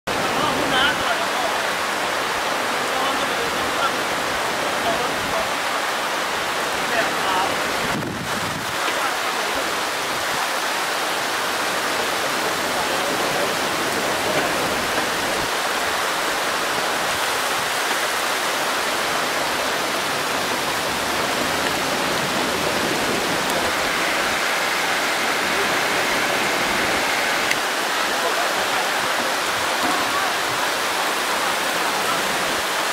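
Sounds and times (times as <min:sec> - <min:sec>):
heavy rain pouring: 0:00.1 - 0:32.9.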